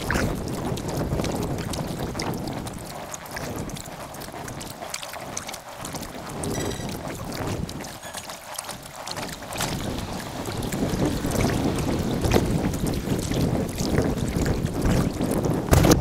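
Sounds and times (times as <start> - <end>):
paddle splashing water: 0.0 - 16.0
wind buffeting microphone: 0.0 - 16.0.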